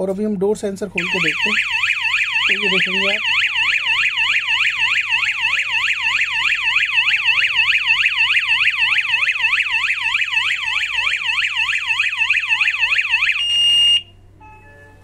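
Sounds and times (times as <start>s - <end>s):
warbling alarm siren: 1.0s - 14.2s.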